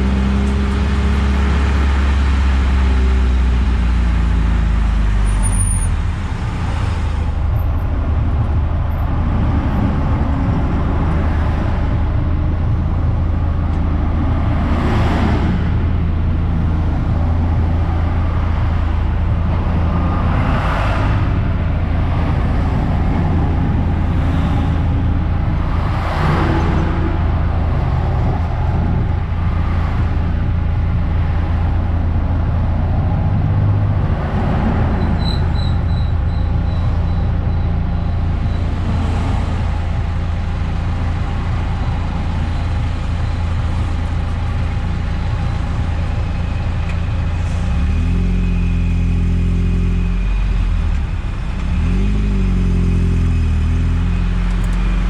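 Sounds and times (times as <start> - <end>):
car engine drone: 0.0 - 55.0
road and tyre noise: 0.0 - 55.0.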